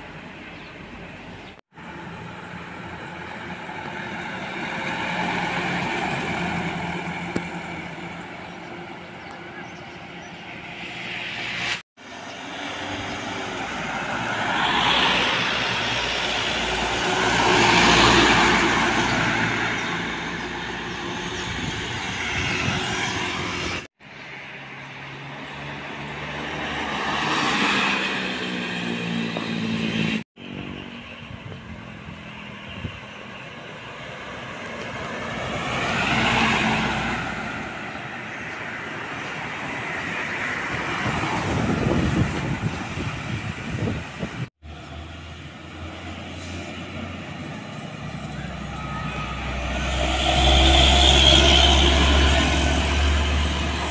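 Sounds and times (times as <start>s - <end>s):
road vehicles passing by: 0.0s - 53.9s.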